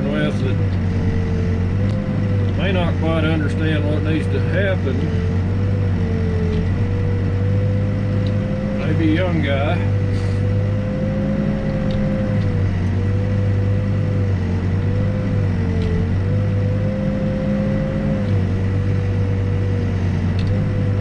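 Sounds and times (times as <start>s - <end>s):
diesel engine droning: 0.0s - 21.0s
hydraulic whine: 0.0s - 21.0s.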